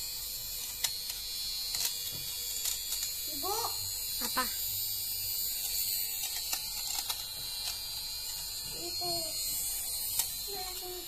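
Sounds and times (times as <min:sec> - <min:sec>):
fuzz trimmer motor whining: 0:00.0 - 0:11.0.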